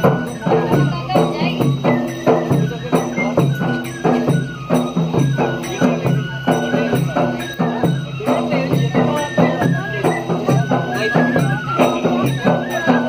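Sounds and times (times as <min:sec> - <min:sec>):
folk dance music: 0:00.0 - 0:13.0
quick percussive beat: 0:00.0 - 0:13.0.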